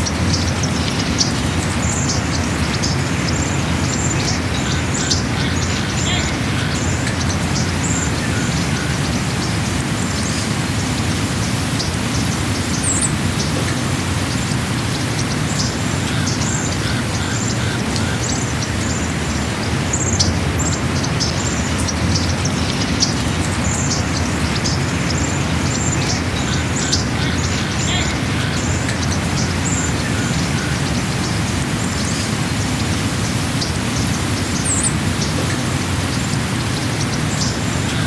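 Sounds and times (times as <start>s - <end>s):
small birds chirping: 0.0s - 38.0s
steady rushing noise: 0.0s - 38.0s.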